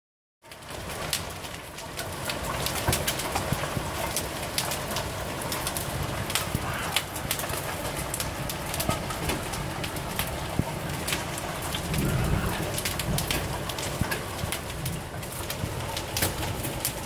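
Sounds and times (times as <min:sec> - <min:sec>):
rain falling with ticking drops: 0:00.4 - 0:17.0.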